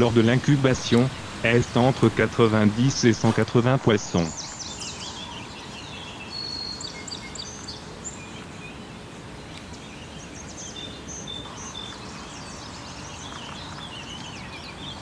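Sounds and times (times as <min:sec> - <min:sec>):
low background hiss: 0:00.0 - 0:15.0
songbirds chirping and whistling: 0:00.0 - 0:15.0.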